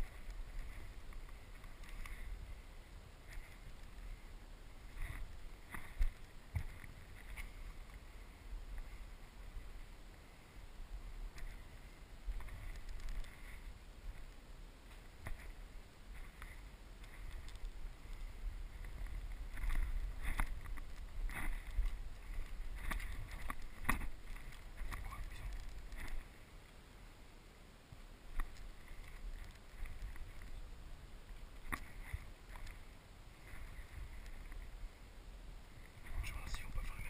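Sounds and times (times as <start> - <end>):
wind rumble on microphone: 0.0 - 26.4, 28.2 - 37.0.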